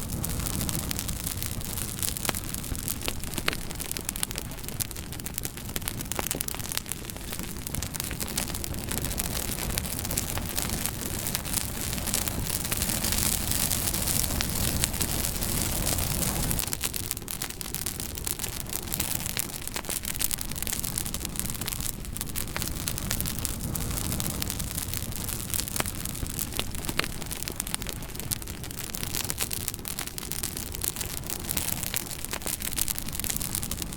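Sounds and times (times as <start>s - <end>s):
campfire crackling and hissing: 0.0s - 33.9s.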